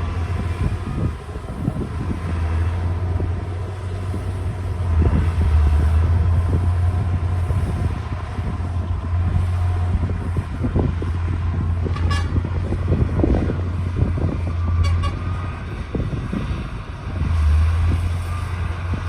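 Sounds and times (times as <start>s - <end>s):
bulldozer diesel engine rumbling: 0.0s - 19.0s.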